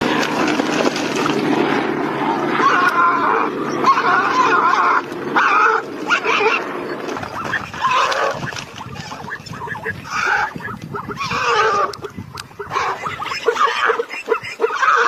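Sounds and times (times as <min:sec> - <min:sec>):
animal calling: 0:02.2 - 0:15.0.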